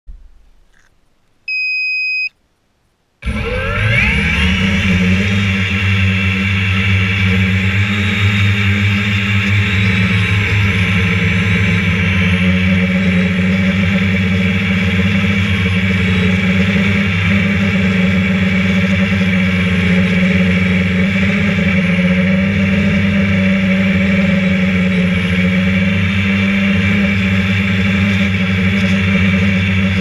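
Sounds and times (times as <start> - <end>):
drone motors humming: 3.2 - 30.0.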